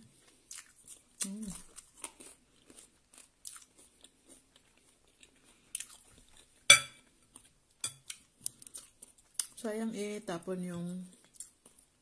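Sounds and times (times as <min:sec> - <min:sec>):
chewing crispy food: 0:00.0 - 0:09.7, 0:11.0 - 0:12.0.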